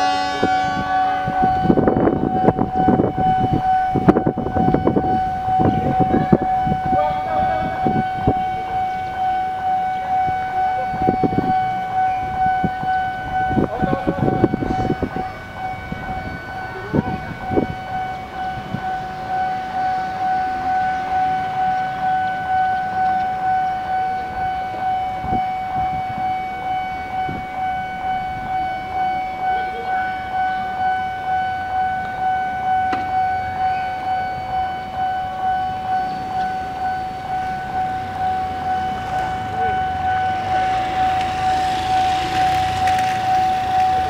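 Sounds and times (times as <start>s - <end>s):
level-crossing warning alarm: 0.0s - 44.0s.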